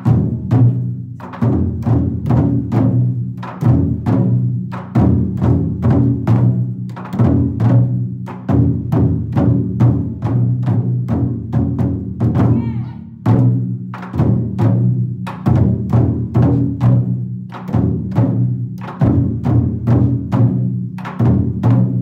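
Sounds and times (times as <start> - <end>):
taiko drums struck in ensemble: 0.0 - 22.0.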